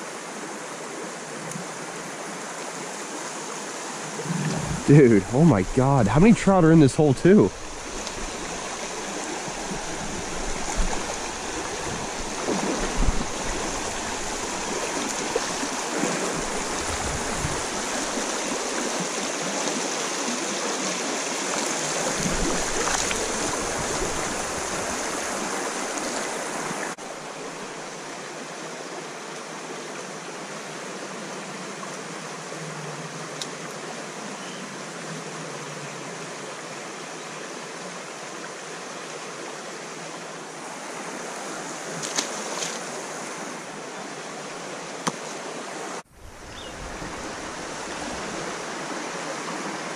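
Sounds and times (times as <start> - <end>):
creek water rippling over rocks: 0.0 - 49.9.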